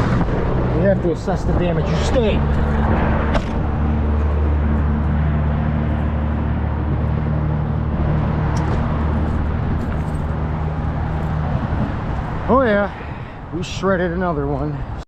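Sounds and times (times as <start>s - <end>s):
vehicle engine idling: 0.0s - 14.5s.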